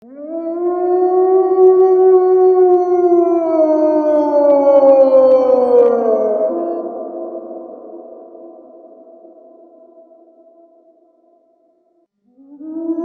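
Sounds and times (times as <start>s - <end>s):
wolf howling: 0.0s - 10.9s, 12.4s - 13.0s.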